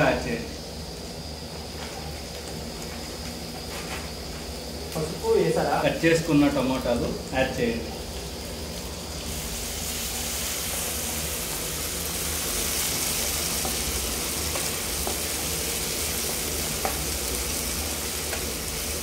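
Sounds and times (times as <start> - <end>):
onions frying in oil: 0.0 - 19.0.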